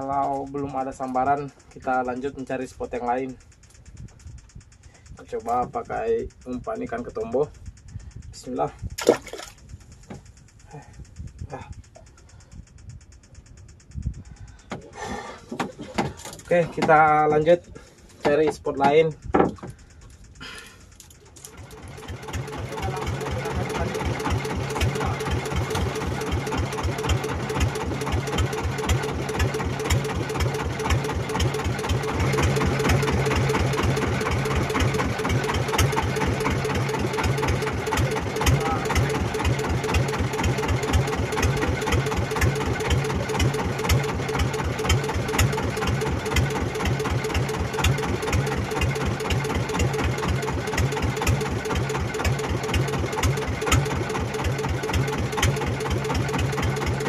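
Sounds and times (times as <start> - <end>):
boat engine pulsing: 0.0 - 57.0.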